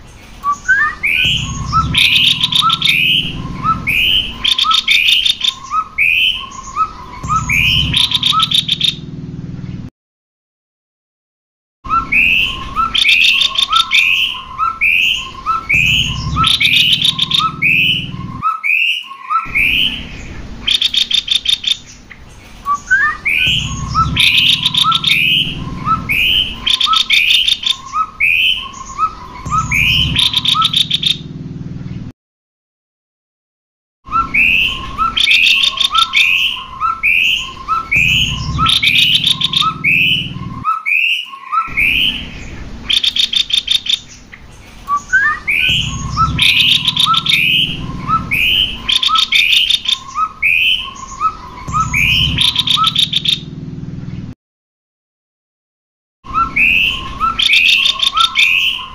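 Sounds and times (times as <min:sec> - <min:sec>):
birds whistling and trilling: 0:00.0 - 0:09.9, 0:11.9 - 0:32.1, 0:34.1 - 0:54.4, 0:56.2 - 0:58.9.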